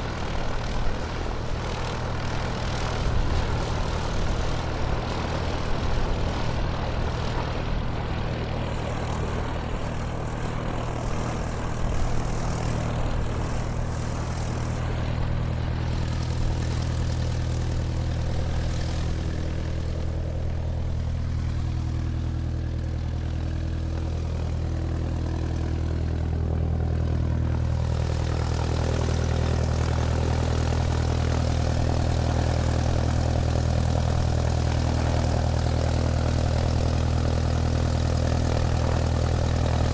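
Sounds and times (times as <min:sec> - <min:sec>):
airplane engines droning: 0:00.0 - 0:39.9.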